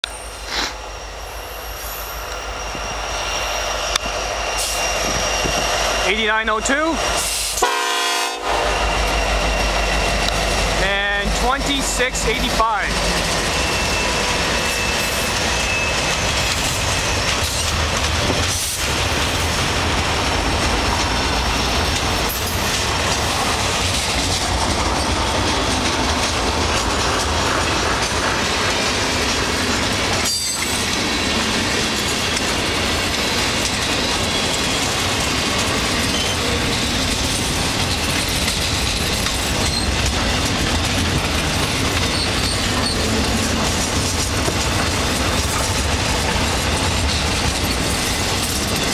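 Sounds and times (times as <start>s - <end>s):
freight train passing: 0.0s - 48.9s
wheels on rails: 8.6s - 48.9s.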